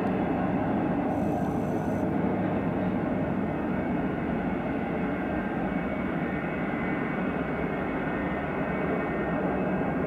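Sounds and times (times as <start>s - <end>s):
faint jet engine whine: 0.0s - 10.0s
jet engines rumbling: 0.0s - 10.0s.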